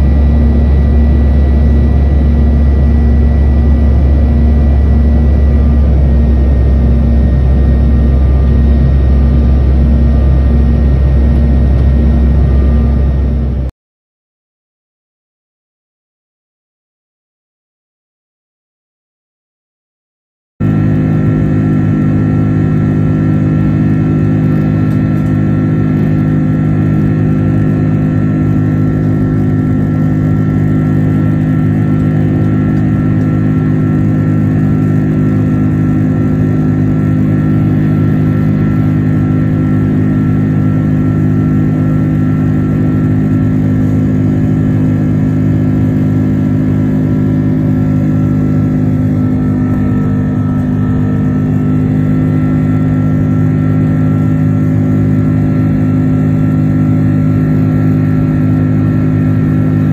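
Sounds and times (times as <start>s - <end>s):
airliner engine drone in cabin: 0.0s - 13.7s, 20.6s - 59.9s.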